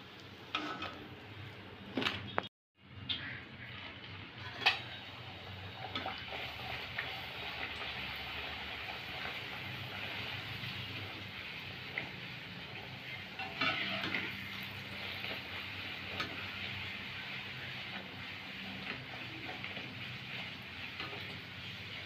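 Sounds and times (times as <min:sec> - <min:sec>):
bread deep-frying in oil: 0:00.0 - 0:22.0.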